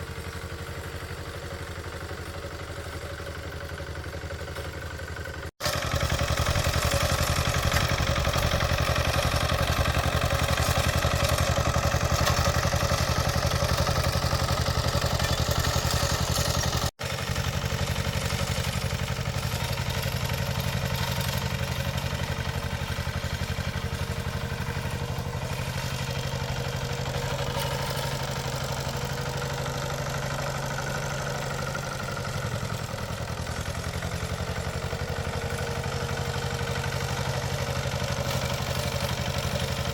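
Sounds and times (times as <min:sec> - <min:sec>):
small engine running with rattle: 0:00.0 - 0:39.9.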